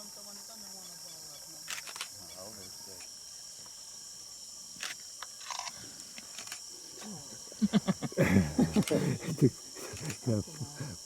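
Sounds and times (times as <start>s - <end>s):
high insect trill: 0.0s - 11.0s.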